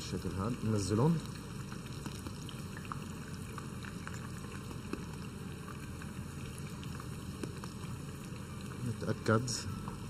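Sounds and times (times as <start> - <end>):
oil popping: 0.0 - 10.0
vegetables deep-frying in oil: 0.0 - 10.0.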